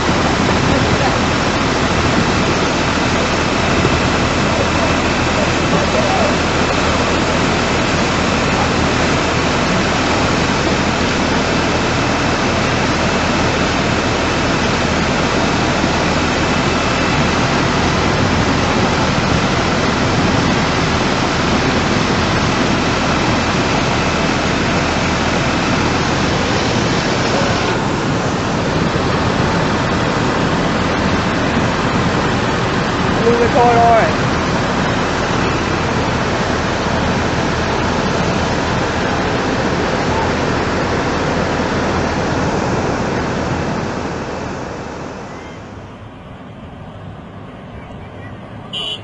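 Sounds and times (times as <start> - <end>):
rushing flood water: 0.0 - 49.0.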